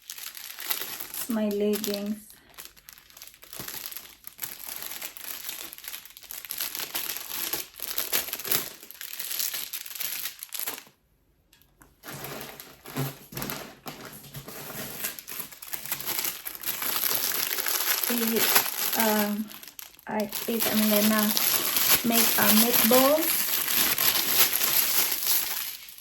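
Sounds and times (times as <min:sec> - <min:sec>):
packaging crinkling: 0:00.0 - 0:11.0, 0:11.7 - 0:26.0.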